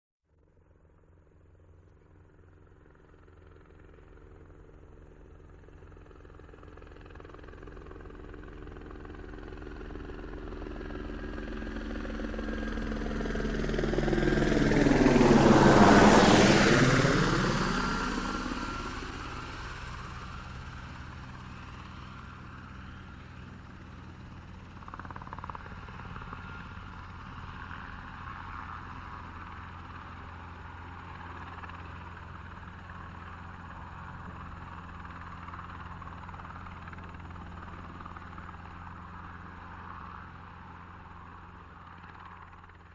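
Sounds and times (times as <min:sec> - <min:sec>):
helicopter passing overhead: 0:00.8 - 0:42.9.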